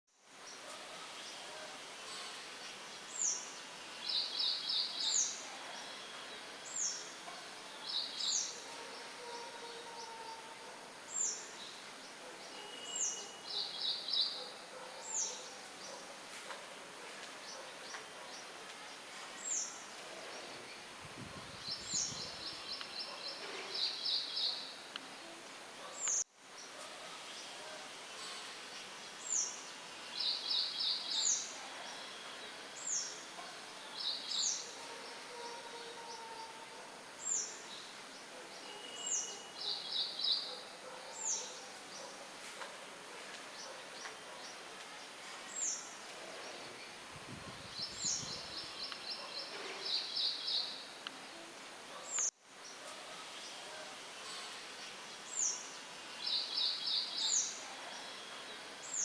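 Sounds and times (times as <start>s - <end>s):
wind through leaves: 0.1s - 59.0s.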